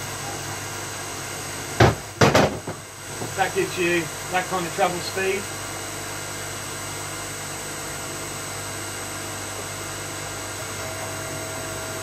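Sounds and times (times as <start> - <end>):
electric motor and pump humming: 0.0 - 12.0.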